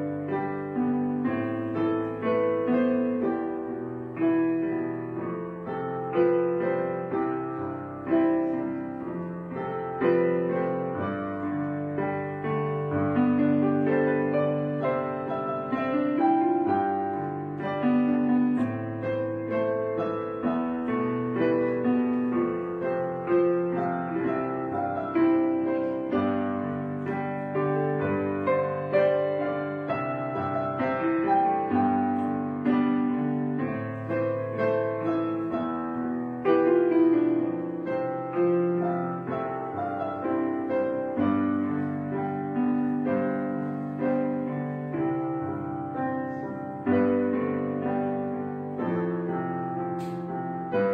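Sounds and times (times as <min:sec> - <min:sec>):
gentle piano music: 0:00.0 - 0:50.9.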